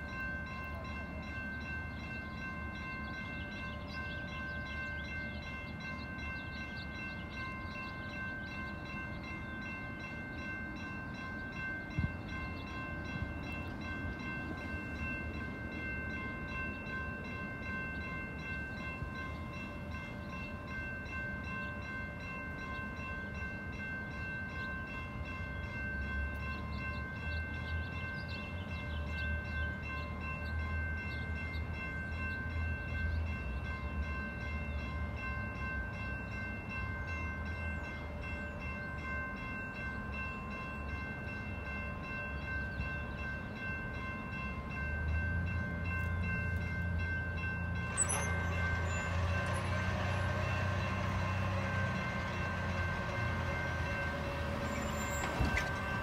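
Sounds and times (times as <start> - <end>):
railroad crossing bell ringing: 0.0 - 56.0.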